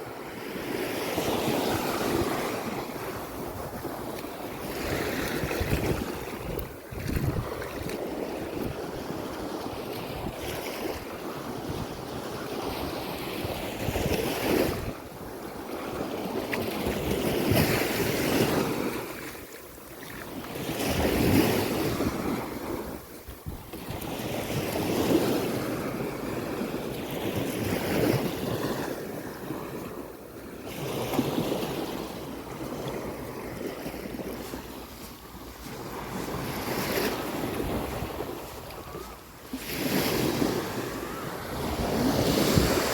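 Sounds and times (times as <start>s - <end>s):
waves washing onto beach: 0.0s - 42.9s
wind buffeting microphone: 1.5s - 19.1s, 20.4s - 30.1s, 30.7s - 42.9s.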